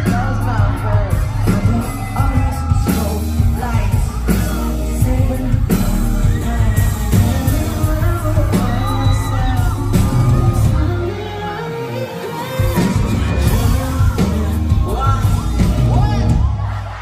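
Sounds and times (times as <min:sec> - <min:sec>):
person singing: 0:00.0 - 0:16.6
live amplified pop music: 0:00.0 - 0:17.0.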